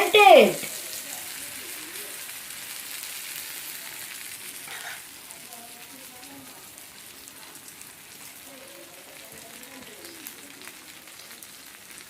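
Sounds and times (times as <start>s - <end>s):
sauce sizzling on hot tray: 0.0s - 12.0s.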